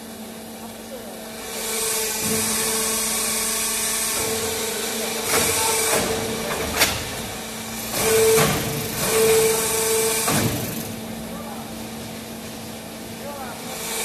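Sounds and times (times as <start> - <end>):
brick-making machine humming drone: 0.0 - 14.0.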